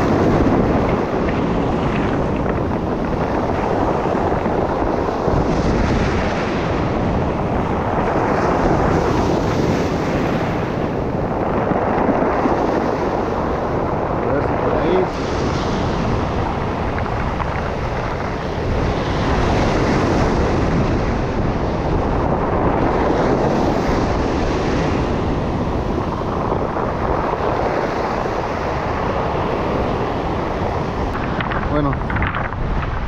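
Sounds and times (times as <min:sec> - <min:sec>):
surf washing over stones: 0:00.0 - 0:33.0
wind on microphone: 0:00.0 - 0:33.0.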